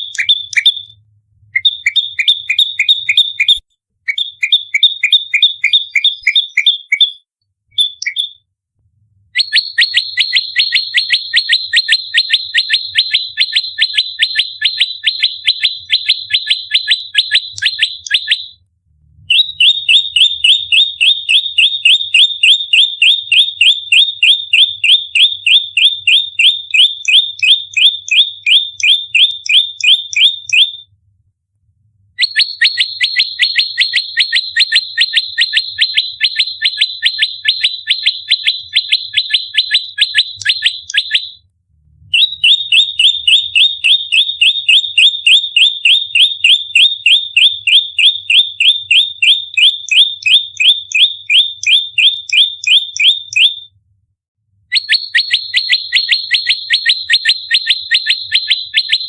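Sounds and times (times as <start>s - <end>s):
bird rapid chirping call: 0.0s - 0.9s, 1.6s - 8.4s, 9.4s - 18.6s, 19.3s - 30.8s, 32.2s - 41.4s, 42.1s - 53.6s, 54.7s - 59.0s.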